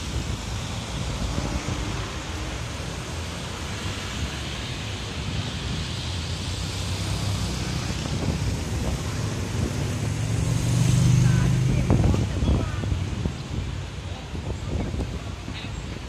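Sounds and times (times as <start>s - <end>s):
car engines passing: 0.0s - 16.0s
tyres on road: 0.0s - 16.0s
motorcycle engines passing: 0.2s - 16.0s.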